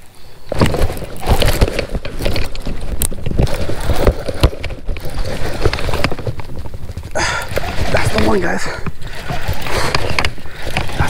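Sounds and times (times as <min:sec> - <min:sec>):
fishing reel clicking and rattling: 0:00.6 - 0:11.0.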